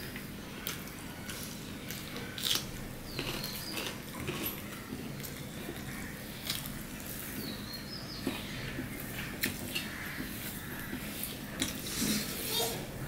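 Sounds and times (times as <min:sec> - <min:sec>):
fingers squelching rice and curry: 0:00.0 - 0:13.0.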